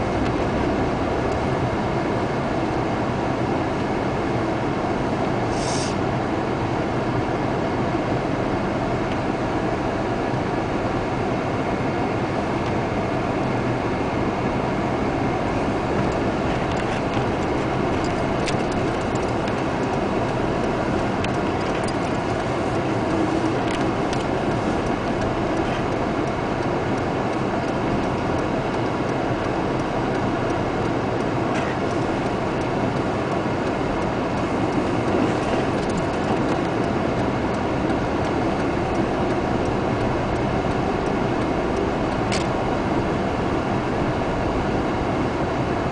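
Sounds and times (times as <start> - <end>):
road and engine noise inside car: 0.0 - 45.9.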